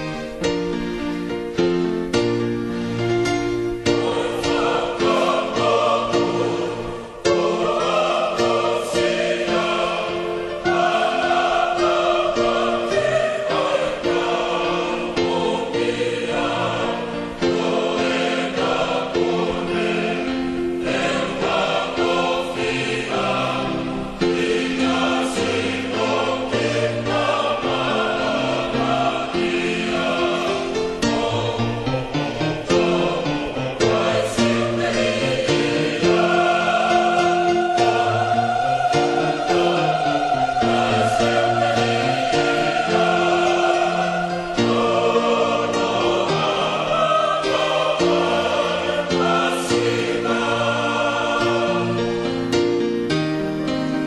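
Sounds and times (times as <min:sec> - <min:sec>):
choir singing sustained chords: 0:00.0 - 0:54.0.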